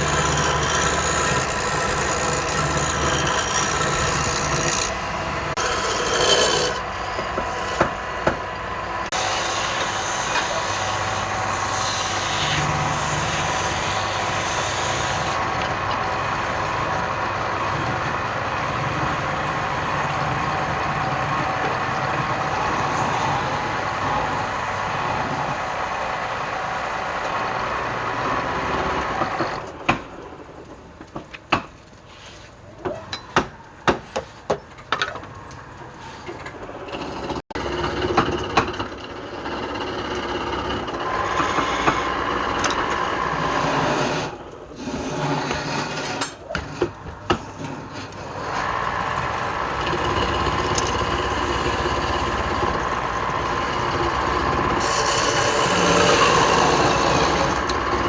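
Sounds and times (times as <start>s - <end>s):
power tool cutting wood: 0.0s - 8.0s, 9.1s - 29.6s, 37.6s - 46.2s, 48.0s - 58.0s.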